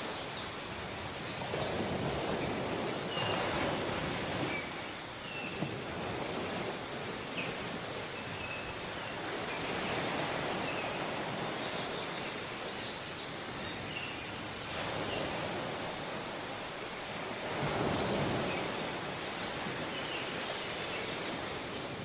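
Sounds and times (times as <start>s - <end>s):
surf washing: 0.0s - 22.0s.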